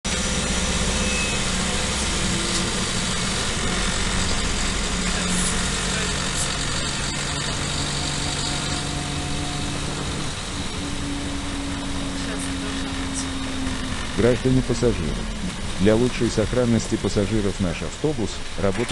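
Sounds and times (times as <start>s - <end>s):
bus engine droning: 0.0s - 18.9s.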